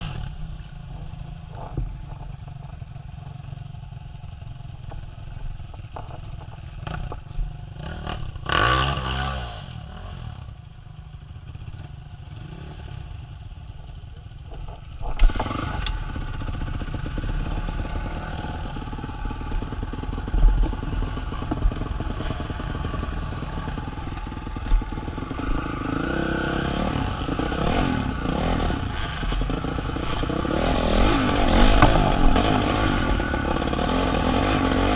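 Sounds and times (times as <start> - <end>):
engine rumbling and clattering: 0.0 - 34.9.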